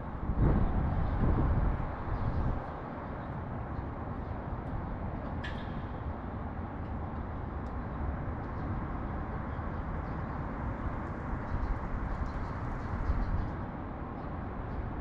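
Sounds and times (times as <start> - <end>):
urban traffic rumble: 0.0 - 15.0.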